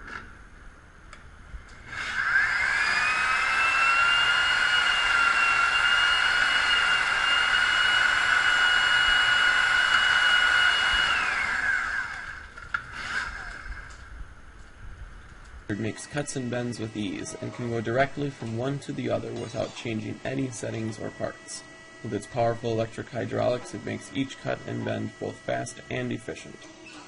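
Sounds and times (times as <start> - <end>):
machine motor whining: 1.6 - 14.7, 15.6 - 27.0.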